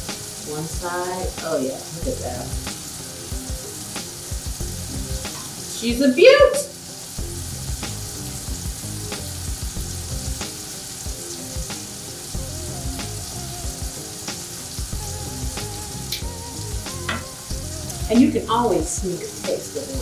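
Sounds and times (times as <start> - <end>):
scallops sizzling in a skillet: 0.0 - 20.0.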